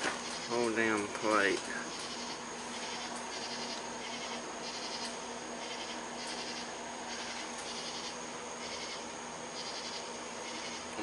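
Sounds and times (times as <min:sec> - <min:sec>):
electrical hum: 0:00.0 - 0:11.0
night insects chirring: 0:00.0 - 0:11.0.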